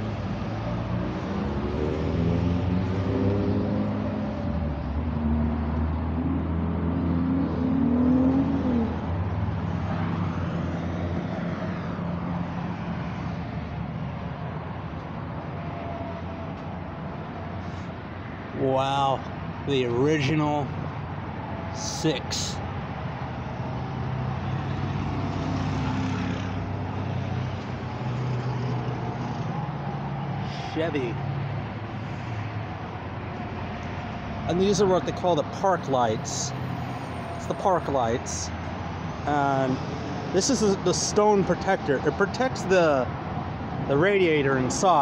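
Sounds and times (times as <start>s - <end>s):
vehicle passing by: 0.0s - 45.0s.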